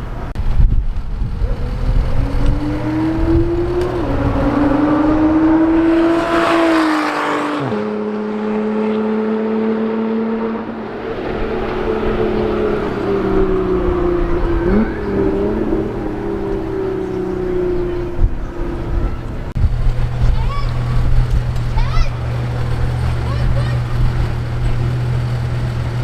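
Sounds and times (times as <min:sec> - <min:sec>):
sports car accelerating past: 0:01.2 - 0:26.0.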